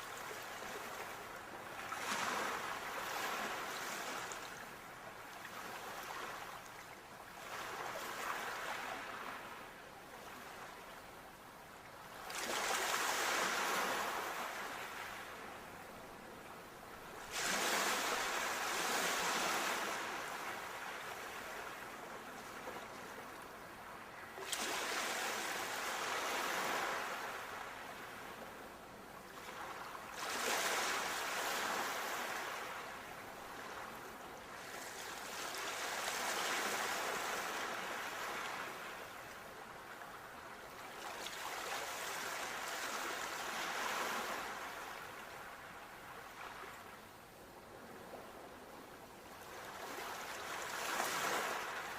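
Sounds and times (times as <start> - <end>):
ocean waves breaking on shore: 0.0 - 10.8, 12.0 - 16.0, 16.9 - 48.6, 49.4 - 51.9.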